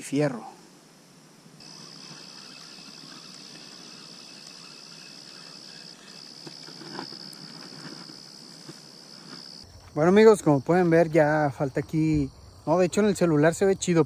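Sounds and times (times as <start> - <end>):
insect trilling: 1.6 - 14.0.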